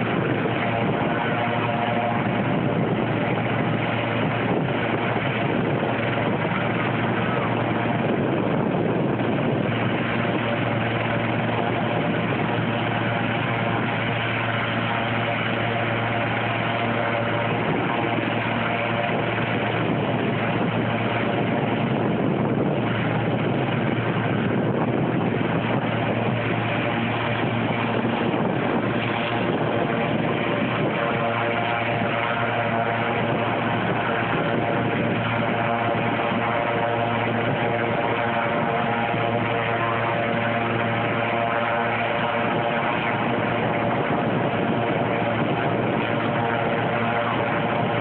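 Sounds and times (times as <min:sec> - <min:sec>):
helicopter turbine and rotor running: 0:00.0 - 0:48.0.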